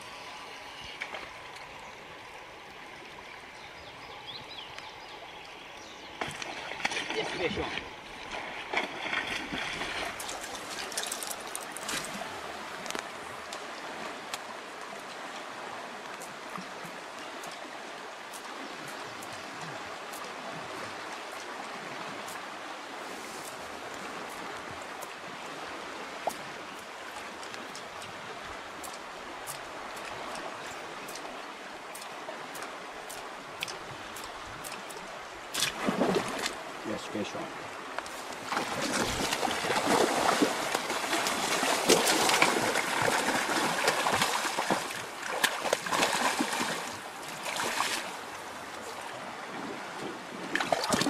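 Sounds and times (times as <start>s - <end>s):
river current running: 0.0s - 51.0s.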